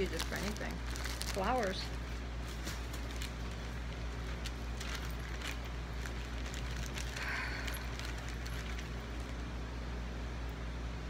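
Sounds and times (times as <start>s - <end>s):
rustling craft supplies: 0.0s - 9.5s
crinkle: 0.0s - 9.6s
steady low hum: 0.0s - 11.0s.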